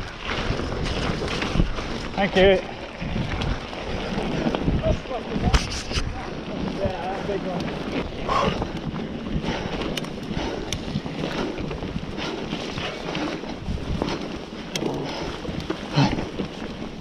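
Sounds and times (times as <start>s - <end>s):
bike clicks and rattles: 0.0s - 17.0s
bike tyres rolling on trail: 0.0s - 17.0s
wind on microphone: 0.0s - 17.0s.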